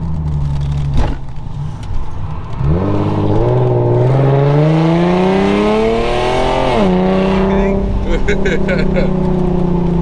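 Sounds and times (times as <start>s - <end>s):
car exhaust accelerating: 0.0s - 10.0s.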